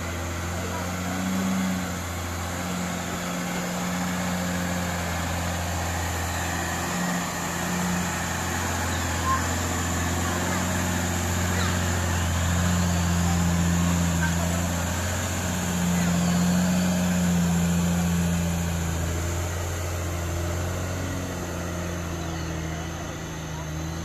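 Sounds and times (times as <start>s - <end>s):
truck engine running under load: 0.0s - 24.0s.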